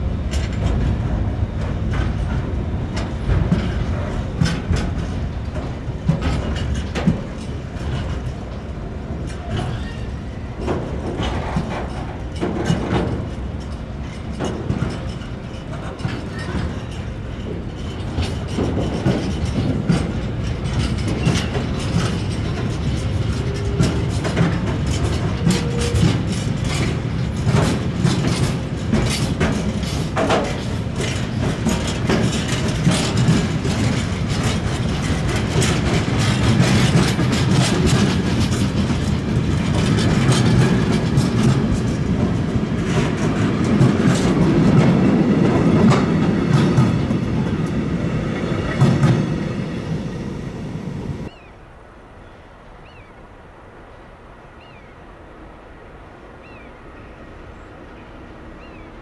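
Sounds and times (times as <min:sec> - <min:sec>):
wheels clicking over rail joints: 0:00.0 - 0:51.5
train wheels rumbling on rail: 0:00.0 - 0:59.0.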